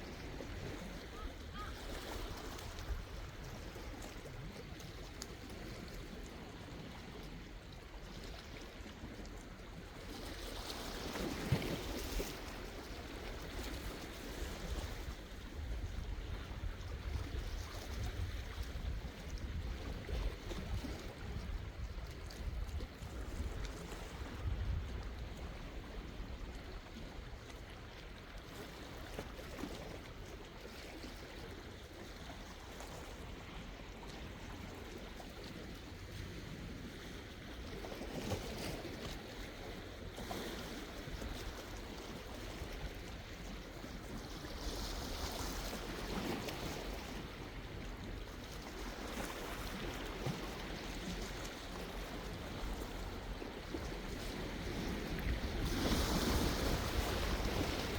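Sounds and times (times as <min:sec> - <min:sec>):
sea waves washing ashore: 0:09.8 - 0:57.9.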